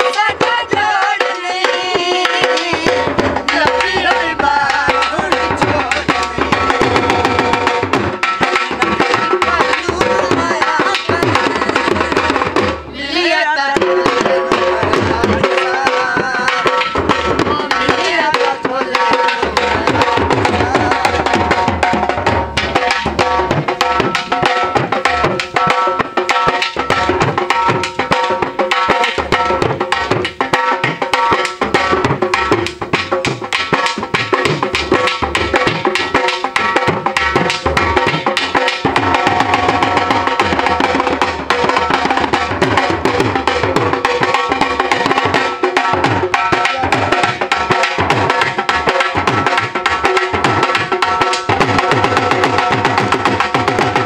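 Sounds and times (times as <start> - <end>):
drums beaten fast: 0.0 - 54.0.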